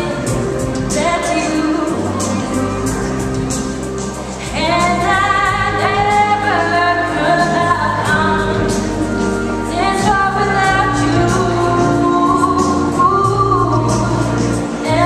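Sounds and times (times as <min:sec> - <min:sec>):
woman singing with vibrato: 0:00.0 - 0:03.2, 0:04.4 - 0:15.0
instrumental backing with beat: 0:00.0 - 0:15.0.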